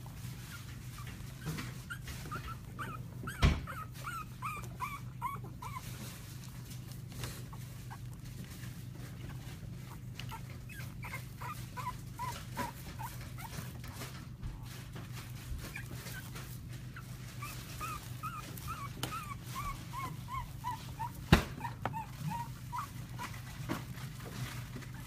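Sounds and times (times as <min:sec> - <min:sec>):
puppies squeaking and whimpering: 0:00.0 - 0:25.0.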